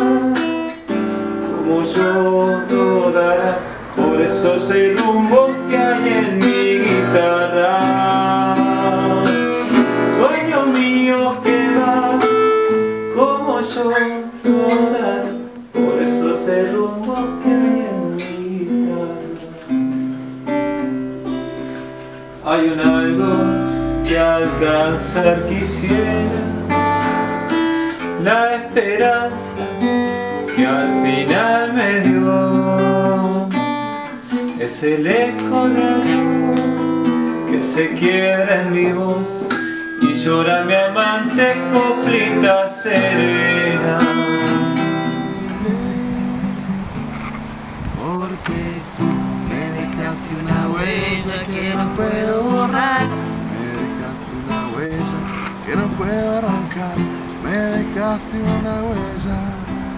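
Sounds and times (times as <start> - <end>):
acoustic guitar strummed and plucked: 0.0 - 59.9.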